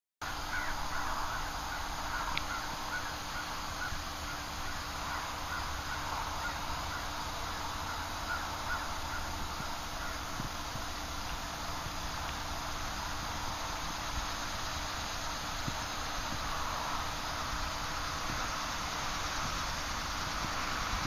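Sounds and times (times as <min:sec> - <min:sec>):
birds harsh calls: 0:00.2 - 0:21.0
low background rush: 0:00.2 - 0:21.0.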